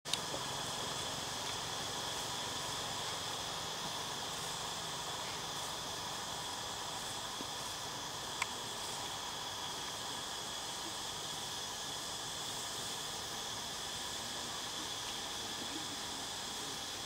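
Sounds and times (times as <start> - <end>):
background hiss: 0.0 - 17.0
insects chirring: 0.1 - 17.0.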